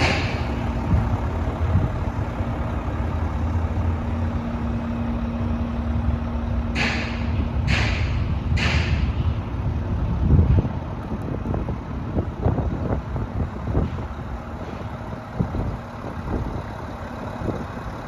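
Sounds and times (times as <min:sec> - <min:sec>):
truck diesel engine rumbling: 0:00.0 - 0:18.0.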